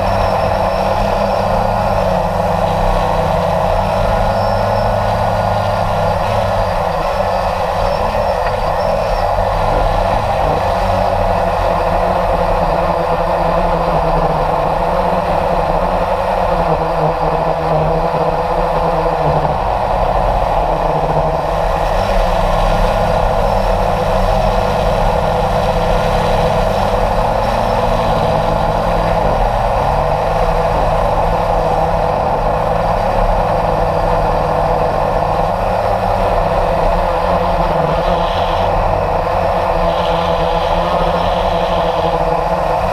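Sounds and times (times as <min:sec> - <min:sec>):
model aircraft motor running: 0:00.0 - 0:42.9.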